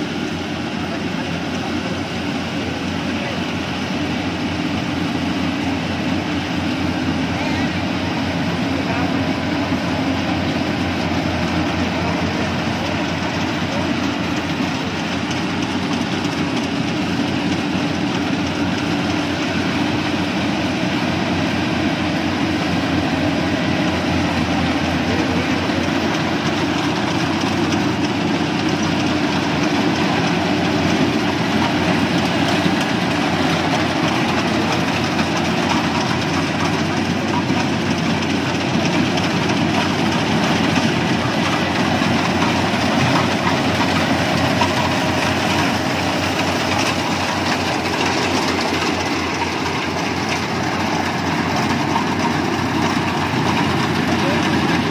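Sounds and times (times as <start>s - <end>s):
diesel engine drone: 0.0s - 54.9s
rattle of threshing machinery: 0.0s - 54.9s.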